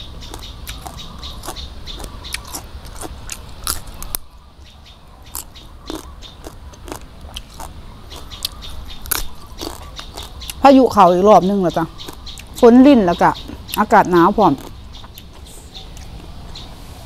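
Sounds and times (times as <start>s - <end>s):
crunching and chewing: 0.0s - 10.6s, 11.9s - 12.6s, 13.5s - 16.4s.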